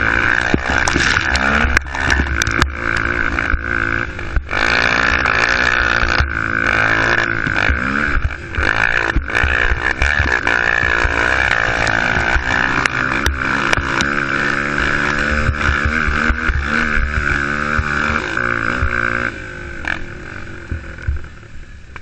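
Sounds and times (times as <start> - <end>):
knocks and clatters over bumps: 0.0 - 19.3
quad engine revving: 0.0 - 21.6.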